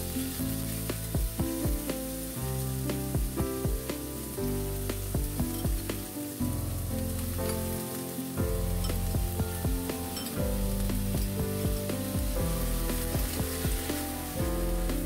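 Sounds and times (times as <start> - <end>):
instrumental music with beat: 0.0 - 15.0
vegetables sizzling in pan: 0.0 - 15.0.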